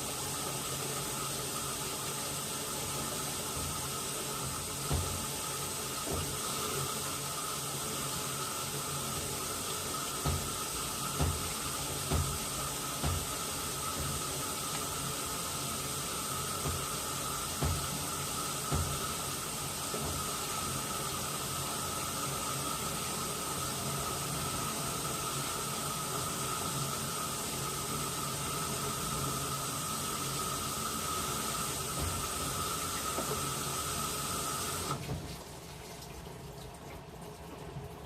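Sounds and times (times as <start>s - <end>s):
running water hissing: 0.0s - 35.3s
washing machine churning: 0.0s - 38.0s.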